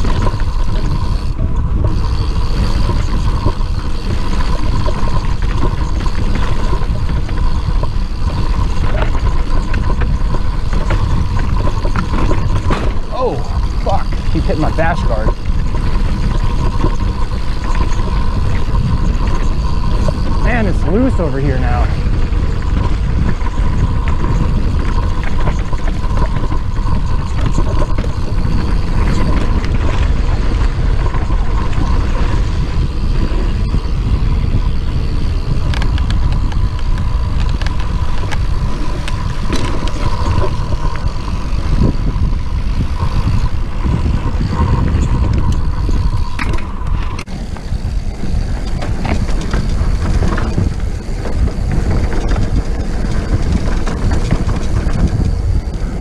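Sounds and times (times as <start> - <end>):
bike rattles and clicks: 0.0 - 56.0
steady thin whine: 0.0 - 56.0
tyres rolling on dirt: 0.0 - 56.0
wind rumble on microphone: 0.0 - 56.0.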